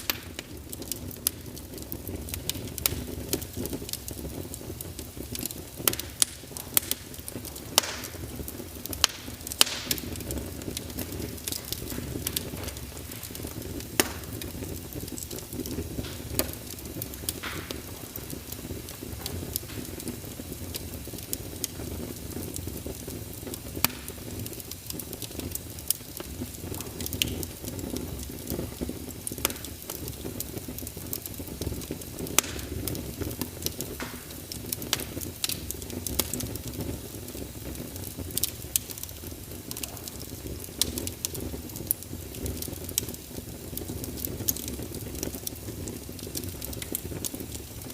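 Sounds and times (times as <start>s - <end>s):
fireplace fire rumble: 0.0s - 47.9s
wood crackling and popping: 0.0s - 47.9s.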